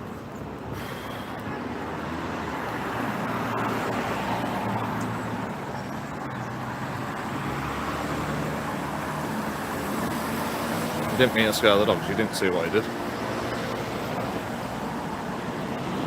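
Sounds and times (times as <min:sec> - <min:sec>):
tyres on the road: 0:00.0 - 0:16.0.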